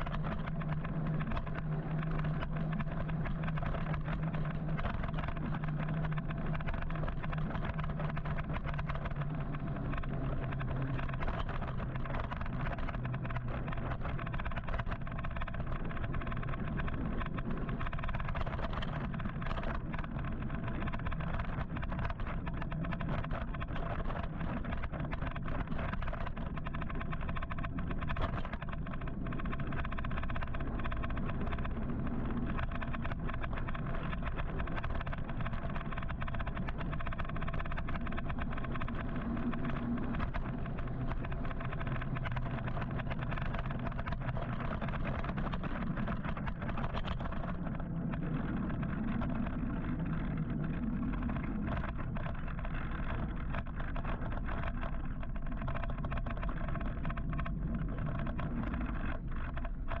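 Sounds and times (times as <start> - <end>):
faint steady whine: 0.0 - 60.0.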